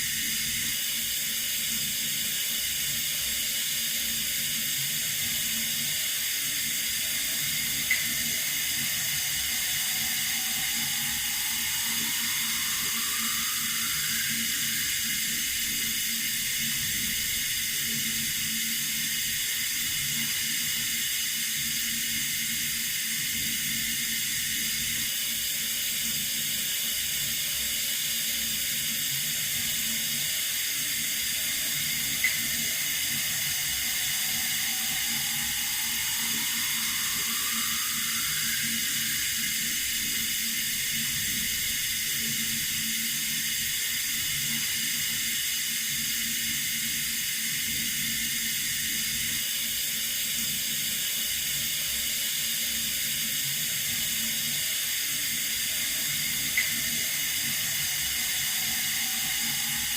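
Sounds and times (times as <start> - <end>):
water running from a tap: 0.0 - 59.9.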